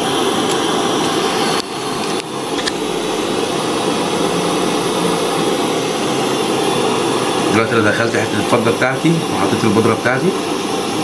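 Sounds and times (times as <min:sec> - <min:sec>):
torch flame rushing: 0:00.0 - 0:11.0.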